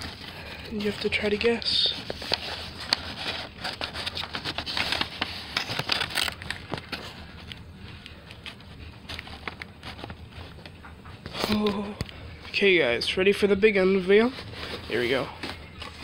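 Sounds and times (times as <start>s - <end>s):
packaging crinkling and scraping: 0.0s - 12.7s, 13.7s - 16.0s.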